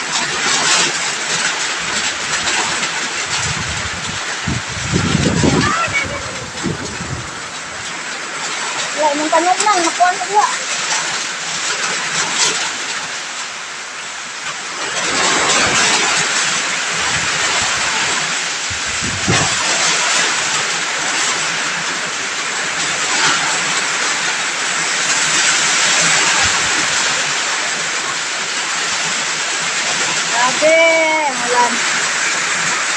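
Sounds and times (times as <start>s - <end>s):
heavy rain pouring: 0.0s - 32.9s
wind gusting: 2.2s - 10.7s, 14.7s - 32.9s.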